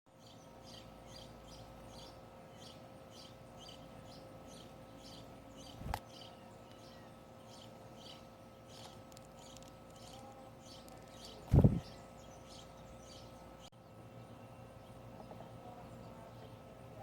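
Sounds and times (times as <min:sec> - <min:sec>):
small bird chirping: 0:00.1 - 0:16.6.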